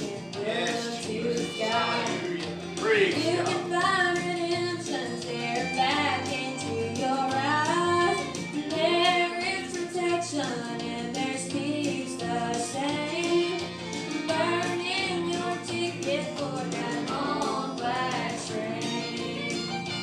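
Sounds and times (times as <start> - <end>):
young woman singing: 0.0 - 2.2, 3.2 - 19.4
instrumental accompaniment: 0.0 - 20.0.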